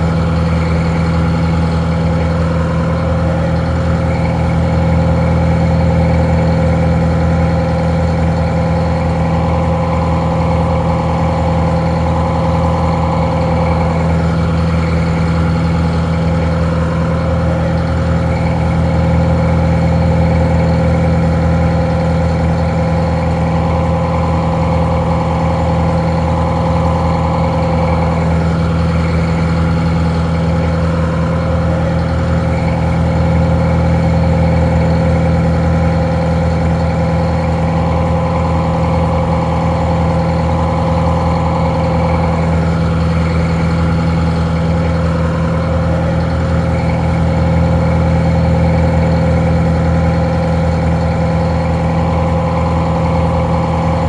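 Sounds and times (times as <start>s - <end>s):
muffled diesel engine idling: 0.0s - 54.0s.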